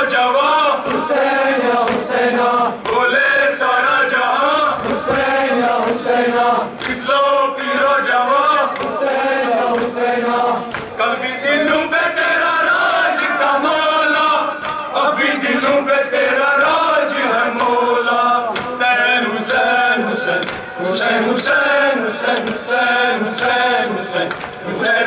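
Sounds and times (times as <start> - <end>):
men chanting together: 0.0 - 25.0.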